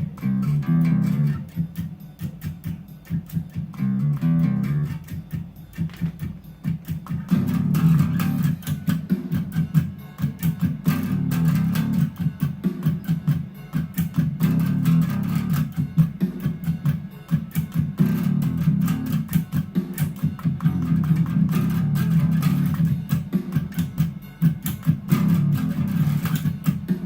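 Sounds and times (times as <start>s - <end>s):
electric bass picked notes: 0.0s - 27.0s.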